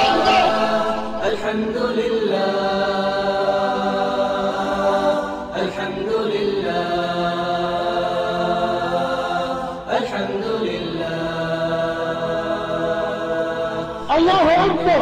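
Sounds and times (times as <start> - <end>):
choir chanting a cappella: 0.0 - 15.0.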